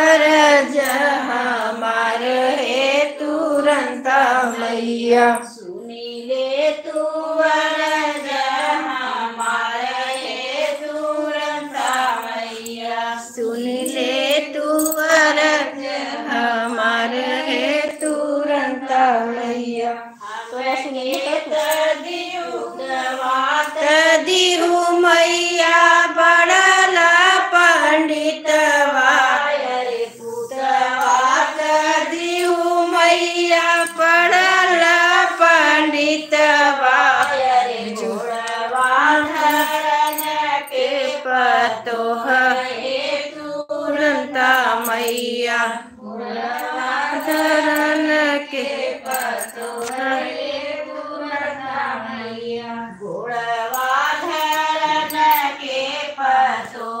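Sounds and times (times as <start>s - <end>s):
women singing devotional song: 0.0s - 57.0s.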